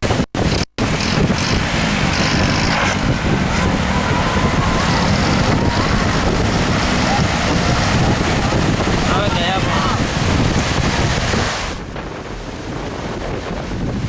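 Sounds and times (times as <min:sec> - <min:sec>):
motorcycle engine running: 0:00.0 - 0:11.4
floodwater rushing: 0:00.8 - 0:13.9.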